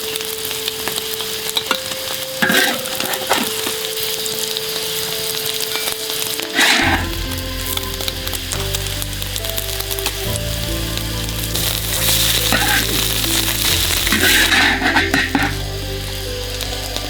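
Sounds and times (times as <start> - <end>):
food sizzling in frying: 0.0 - 17.0
music of held low notes: 0.0 - 17.0.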